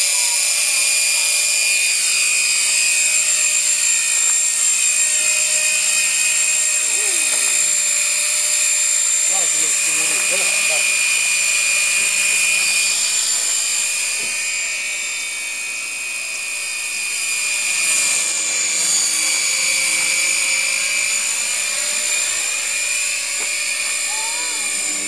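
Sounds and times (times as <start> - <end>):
radio-controlled helicopter whine: 0.0 - 25.0.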